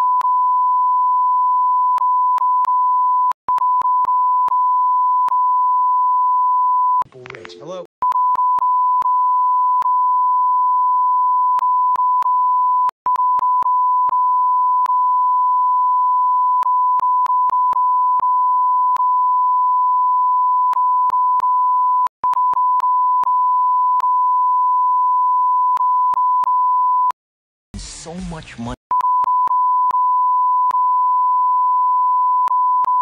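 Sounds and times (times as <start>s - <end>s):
censor bleep tone: 0.0s - 7.0s, 8.0s - 27.2s, 28.9s - 33.0s.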